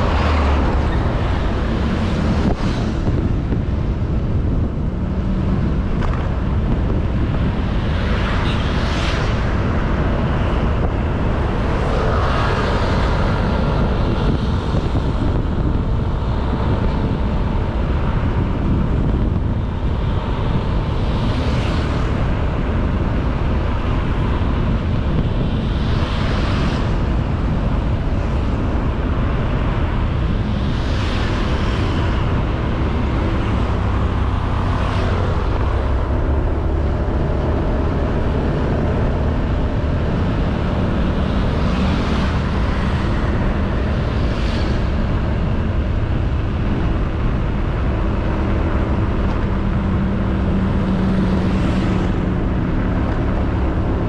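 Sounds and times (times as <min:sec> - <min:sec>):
scooter engine and road noise: 0:00.0 - 0:54.0
vehicles passing: 0:00.0 - 0:54.0
wind on microphone: 0:00.0 - 0:54.0.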